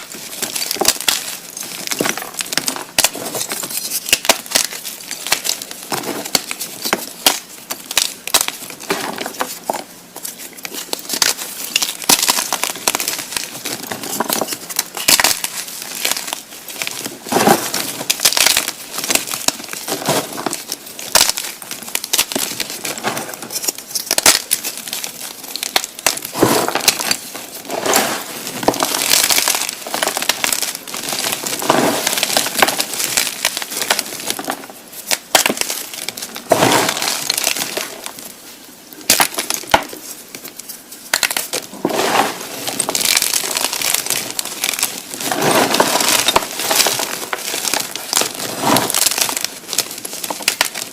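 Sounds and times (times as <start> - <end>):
chalk blocks crushed by hand: 0.0 - 38.2, 39.0 - 40.5, 41.1 - 50.9.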